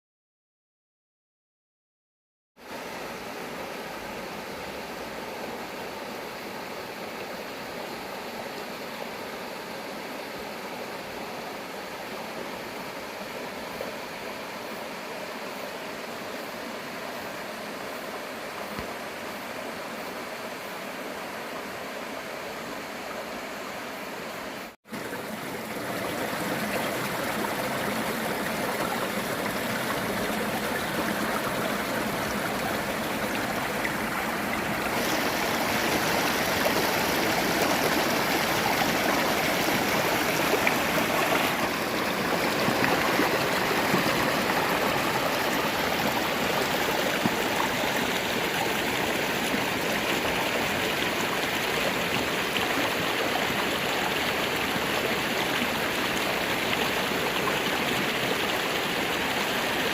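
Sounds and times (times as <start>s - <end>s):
stream running over rocks: 2.6s - 59.9s.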